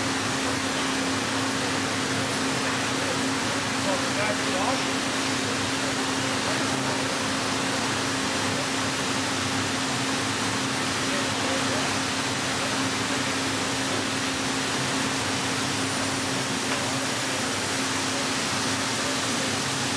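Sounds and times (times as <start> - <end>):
plate bending machine hum: 0.0 - 19.9.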